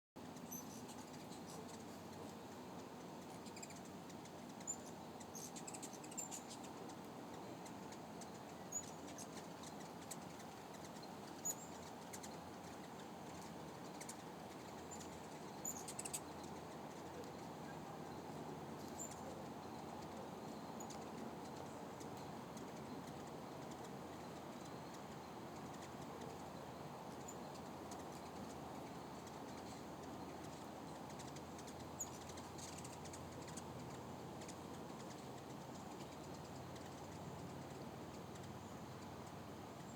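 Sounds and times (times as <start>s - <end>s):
hummingbird chirps: 0.2s - 39.9s.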